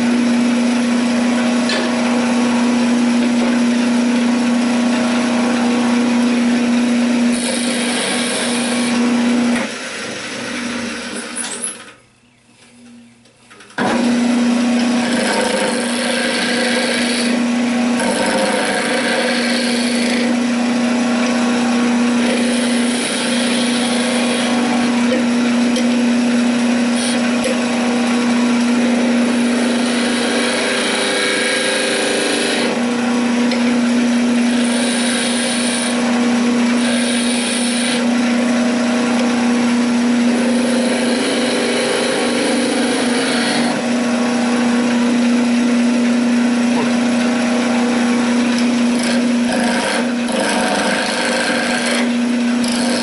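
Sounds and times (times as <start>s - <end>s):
chisel cutting wood: 0.0s - 11.8s, 13.8s - 45.3s, 46.3s - 53.0s
wood lathe motor hum: 0.0s - 11.9s, 13.8s - 53.0s.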